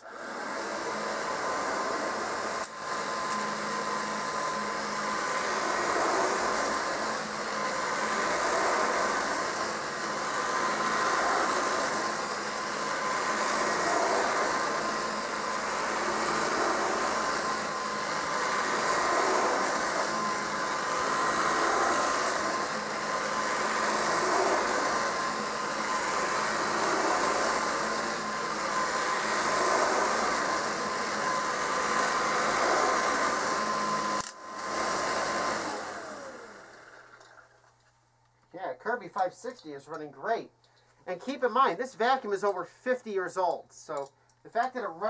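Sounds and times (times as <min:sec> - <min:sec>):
vacuum motor winding down: 0:00.0 - 0:37.5
vacuum cleaner motor whine: 0:00.0 - 0:37.7.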